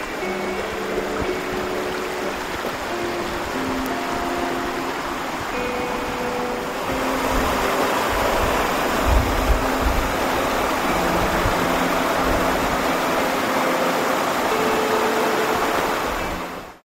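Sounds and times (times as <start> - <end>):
waterfall pouring over rocks: 0.0 - 16.8.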